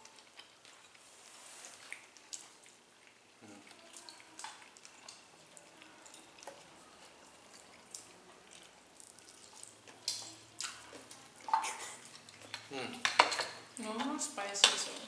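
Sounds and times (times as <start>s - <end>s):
wet mouth sounds of eating: 0.0s - 13.1s.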